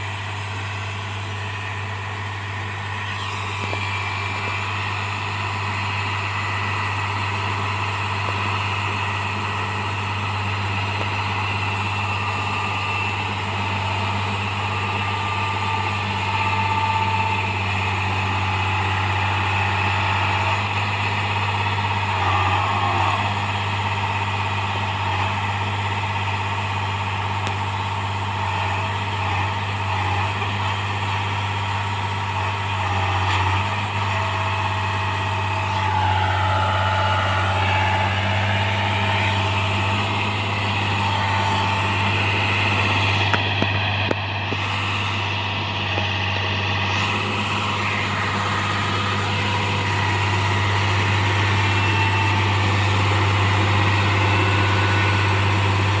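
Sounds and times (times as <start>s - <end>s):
machine engine humming: 0.0s - 56.0s.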